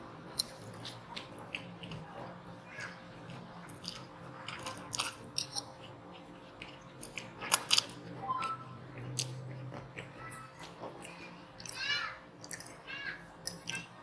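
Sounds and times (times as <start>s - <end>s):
wet chewing with mouth clicks: 0.3s - 14.0s.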